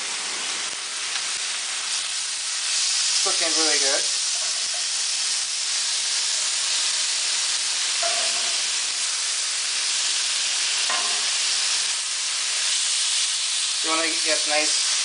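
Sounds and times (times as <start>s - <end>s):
steak sizzling on a grill pan: 0.0s - 15.0s.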